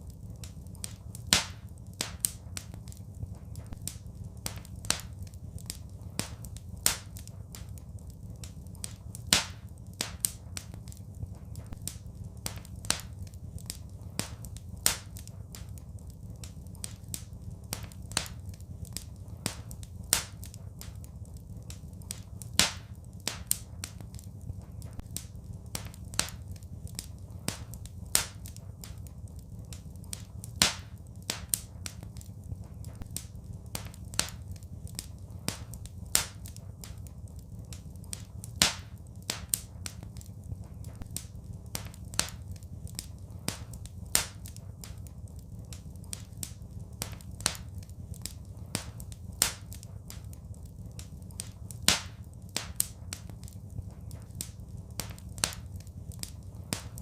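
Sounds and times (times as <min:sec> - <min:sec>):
low steady rumble: 0:00.0 - 0:57.0
wood fire crackling and popping: 0:00.0 - 0:57.0.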